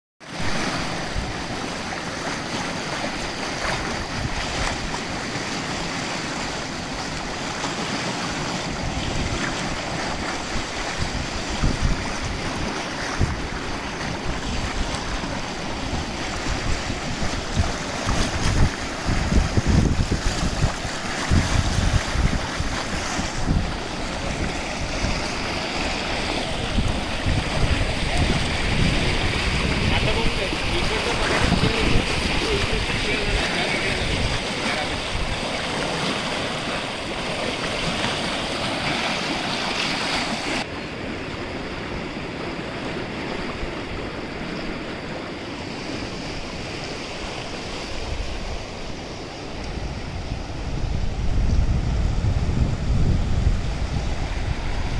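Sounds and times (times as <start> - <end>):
rushing floodwater: 0.2 - 54.9
wind buffeting microphone: 0.4 - 39.6, 40.3 - 54.9.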